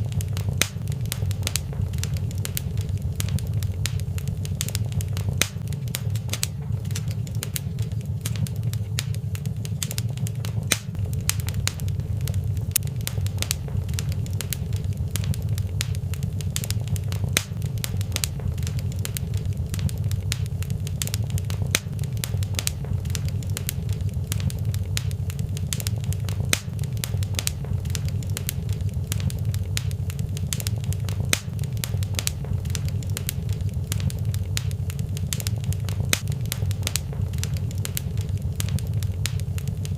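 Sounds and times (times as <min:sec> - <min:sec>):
low rumble of fire: 0:00.0 - 0:39.9
wood fire crackles and pops: 0:00.0 - 0:39.9.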